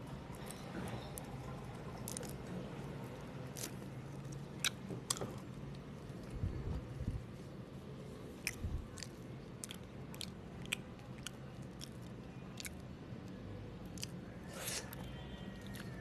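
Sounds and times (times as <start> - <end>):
steady low hum: 0.0 - 16.0
sticky chewing mouth sounds: 0.2 - 7.2, 8.2 - 16.0.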